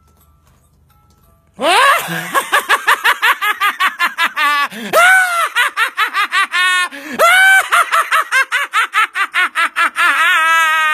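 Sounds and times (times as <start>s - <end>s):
man cackling laugh: 1.6s - 10.9s.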